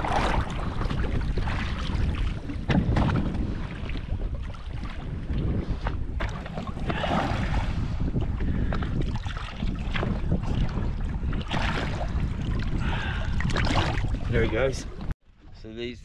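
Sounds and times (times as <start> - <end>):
water splashing against hull: 0.0 - 15.7
wind buffeting microphone: 0.0 - 16.0.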